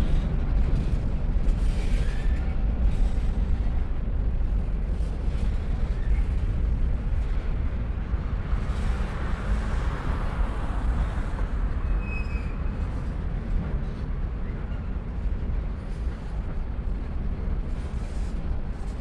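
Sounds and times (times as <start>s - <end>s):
freight train rumbling on bridge: 0.0s - 19.0s.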